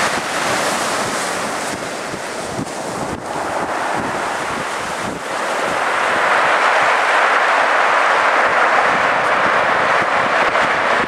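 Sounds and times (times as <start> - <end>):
gusting wind: 0.0 - 11.0
surging sea water: 0.0 - 11.0.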